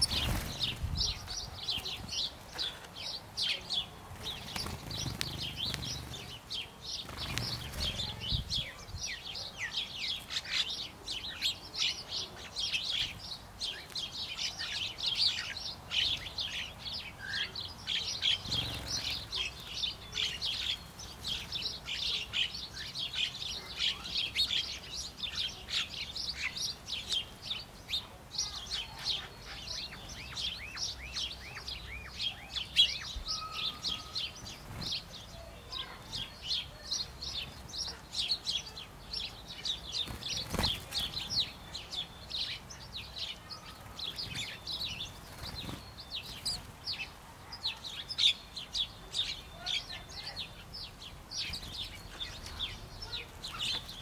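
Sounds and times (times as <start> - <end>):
sparrows chirping: 0.0 - 54.0.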